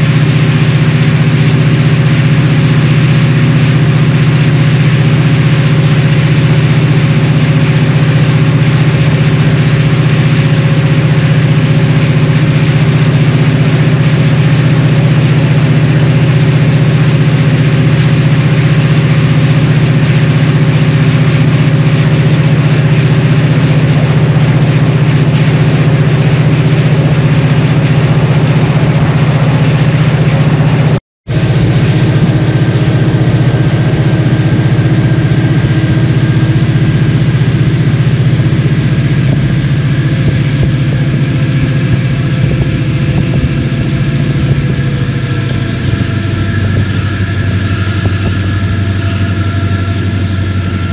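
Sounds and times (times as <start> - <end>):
locomotive diesel engine droning: 0.0 - 50.9.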